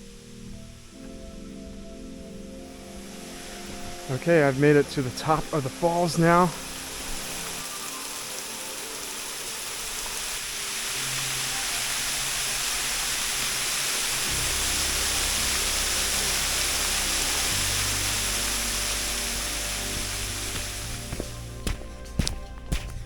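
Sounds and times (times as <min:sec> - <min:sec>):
waterfall rushing: 0:00.0 - 0:22.4
low sustained music tones: 0:00.0 - 0:23.0.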